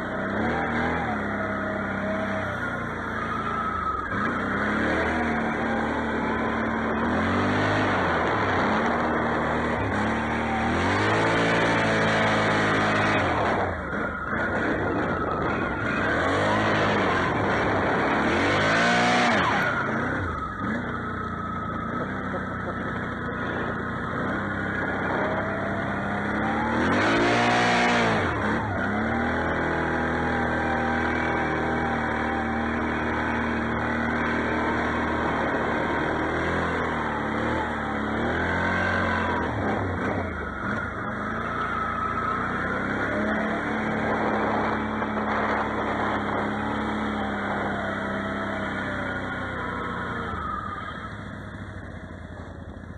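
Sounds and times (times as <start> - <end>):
engine revving: 0.0 - 52.9.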